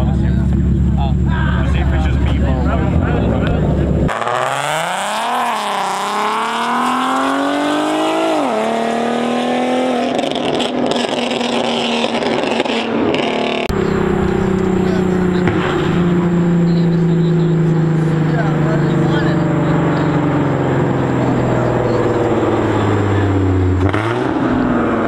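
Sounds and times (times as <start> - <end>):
car engine accelerating: 0.0 - 25.0
other car engine drone: 0.0 - 25.0.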